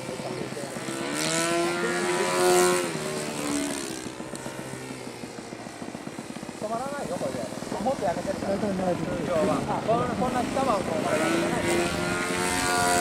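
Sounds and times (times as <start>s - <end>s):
model airplane engine and propeller: 0.0s - 13.0s.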